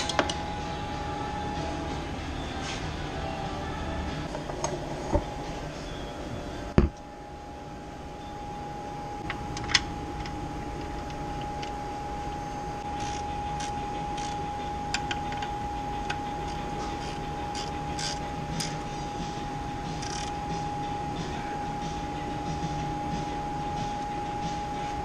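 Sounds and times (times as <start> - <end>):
steady high hum: 0.0 - 25.0.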